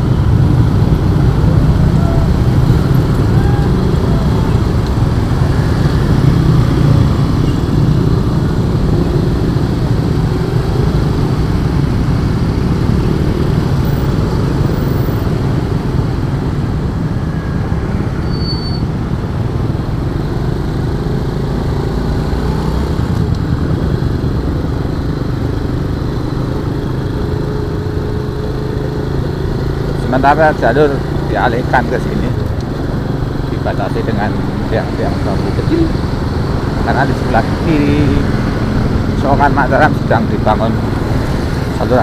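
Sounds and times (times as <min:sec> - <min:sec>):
motorcycle engine running: 0:00.0 - 0:15.6, 0:23.0 - 0:41.8.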